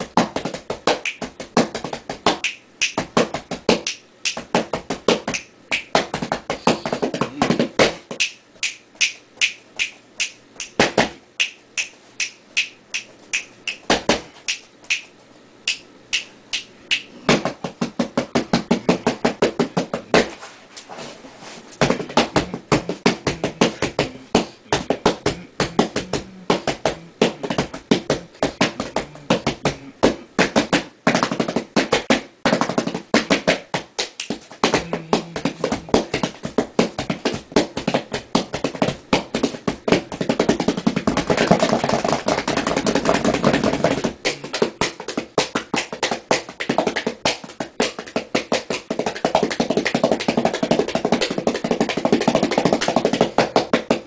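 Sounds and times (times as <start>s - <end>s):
hands drumming on cardboard box: 0.0s - 8.3s, 17.2s - 20.4s, 21.8s - 54.0s.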